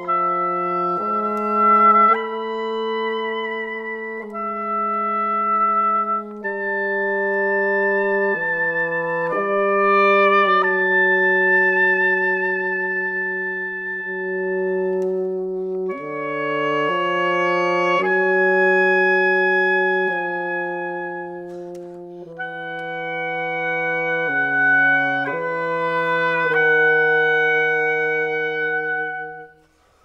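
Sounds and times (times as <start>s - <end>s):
bassoon: 0.0s - 30.0s
oboe: 0.0s - 30.0s.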